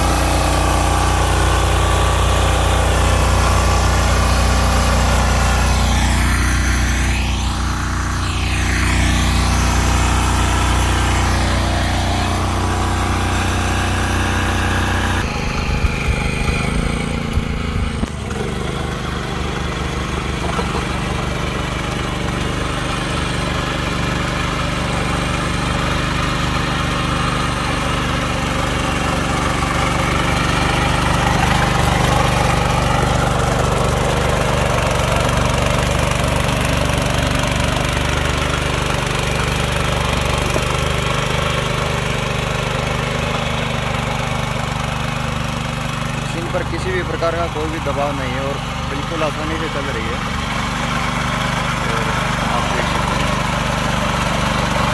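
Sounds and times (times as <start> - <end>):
small engine running: 0.0 - 54.9.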